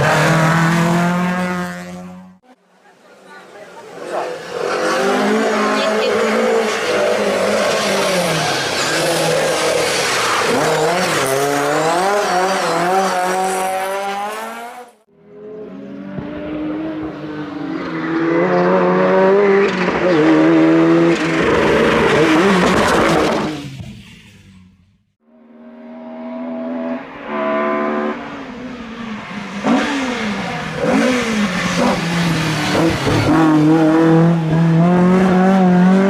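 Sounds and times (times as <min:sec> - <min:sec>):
rally car engines revving: 0:00.0 - 0:02.6, 0:03.2 - 0:24.8, 0:25.4 - 0:36.0.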